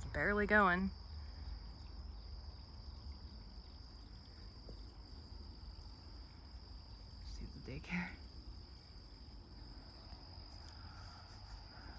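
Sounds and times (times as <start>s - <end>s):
crickets trilling: 0.0s - 11.9s.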